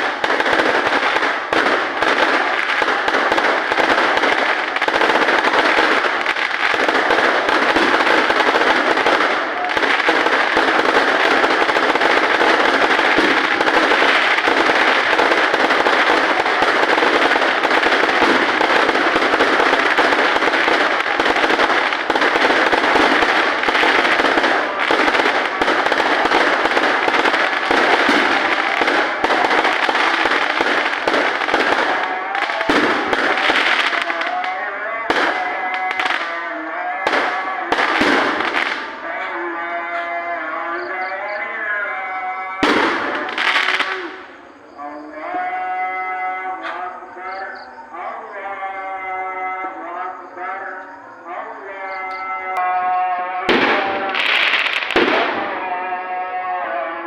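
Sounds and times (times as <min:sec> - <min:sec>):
fireworks crackling barrage: 0:00.0 - 0:57.0.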